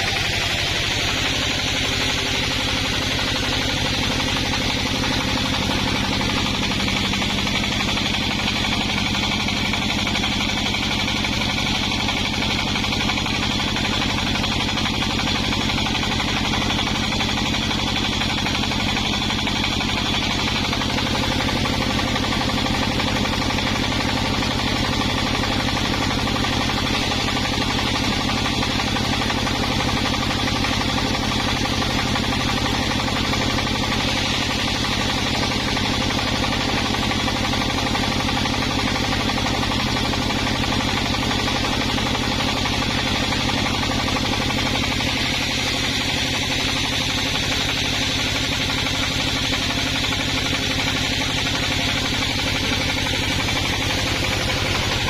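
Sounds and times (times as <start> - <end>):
wood-cutting machine engine droning: 0.0 - 55.0.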